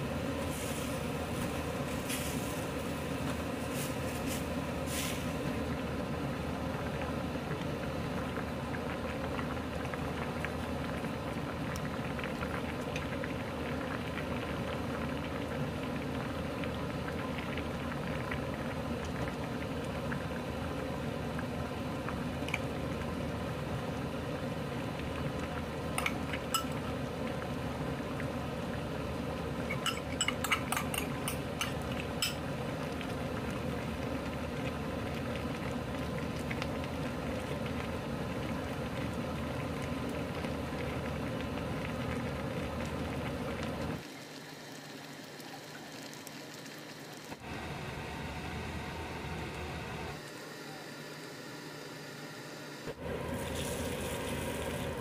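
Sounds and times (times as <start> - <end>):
pot bubbling and hissing: 0.0 - 55.0.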